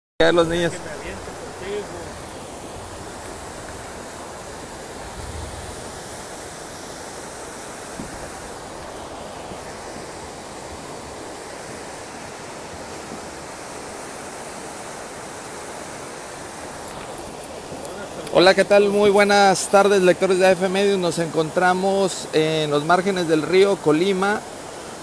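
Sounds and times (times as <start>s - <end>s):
river rushing over rocks: 0.2s - 25.0s.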